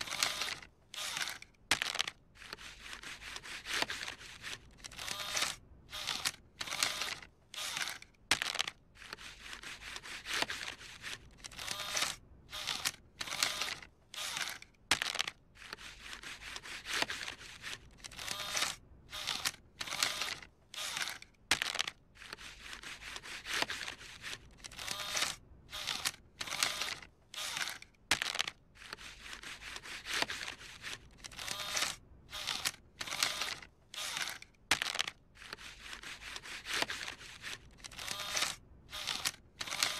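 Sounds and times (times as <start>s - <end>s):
paper bill rustling in slot: 0.0s - 39.9s.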